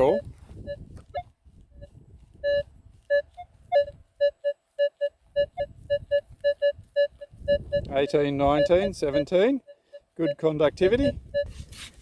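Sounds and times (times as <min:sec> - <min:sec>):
metal detector beeps: 0:00.0 - 0:12.0.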